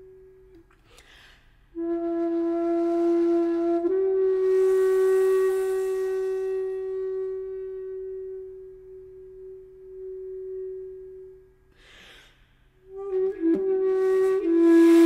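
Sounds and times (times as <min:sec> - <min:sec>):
long held flute-like note: 0:00.0 - 0:01.1, 0:01.7 - 0:11.8, 0:12.8 - 0:15.0.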